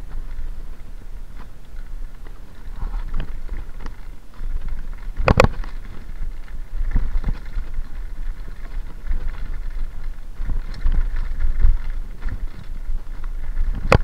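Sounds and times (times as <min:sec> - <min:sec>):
bike knocking over bumps: 0:00.0 - 0:14.0
low rumble of tyres on gravel: 0:00.0 - 0:14.0
wind on microphone: 0:00.0 - 0:14.0.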